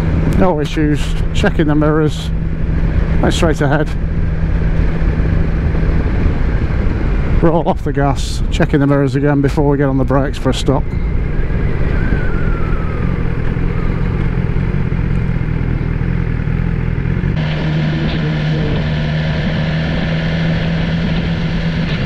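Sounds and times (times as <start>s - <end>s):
motorcycle engine at low revs: 0.0s - 22.0s
wind and road noise: 0.0s - 22.0s.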